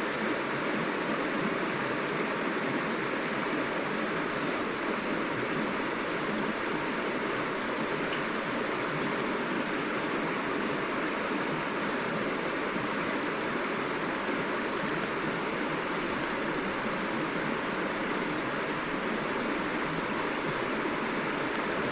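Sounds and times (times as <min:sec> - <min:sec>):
stream rushing over rocks: 0:01.6 - 0:21.9.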